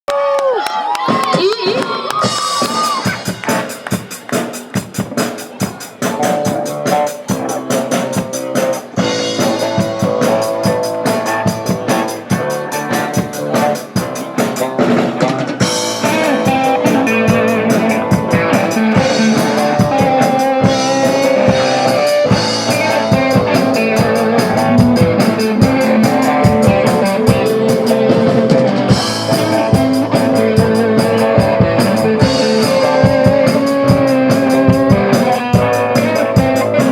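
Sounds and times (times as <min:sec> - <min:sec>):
drums: 0:00.5 - 0:36.9
rock band playing: 0:01.0 - 0:36.9
sustained guitar lines: 0:05.7 - 0:36.9.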